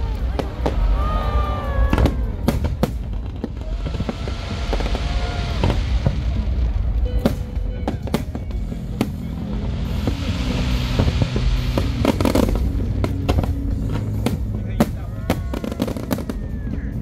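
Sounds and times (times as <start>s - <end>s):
constant low rumble: 0.0s - 17.0s
fireworks bursting with sharp bangs: 0.0s - 17.0s.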